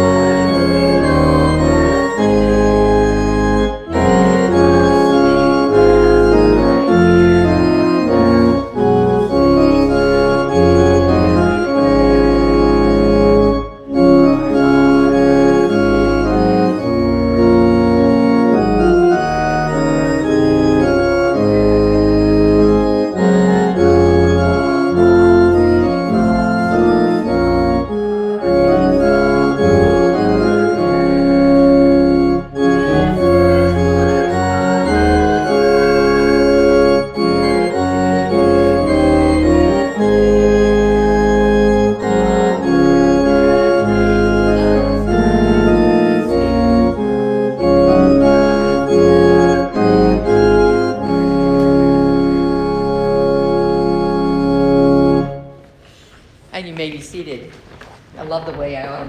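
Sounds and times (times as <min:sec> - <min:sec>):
church organ playing a hymn: 0:00.0 - 0:56.3.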